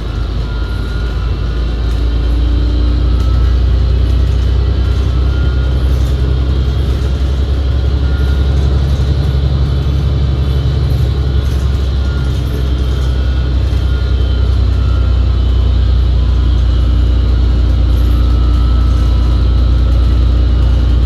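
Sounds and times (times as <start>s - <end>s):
bus cabin low rumble: 0.0s - 21.0s
faint high whining tones: 0.0s - 21.0s.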